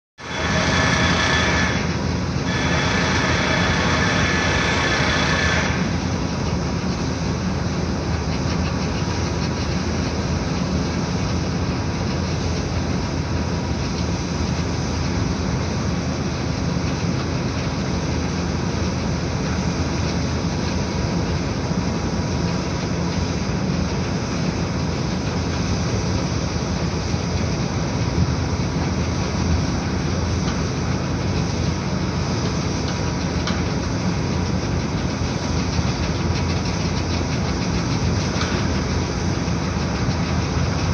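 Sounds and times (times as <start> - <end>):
construction machinery: 0.2 - 40.9.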